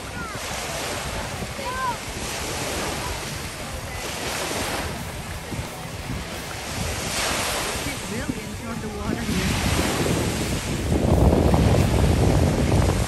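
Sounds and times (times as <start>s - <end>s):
small waves breaking on sand: 0.0s - 13.0s
wind buffeting microphone: 0.0s - 13.0s.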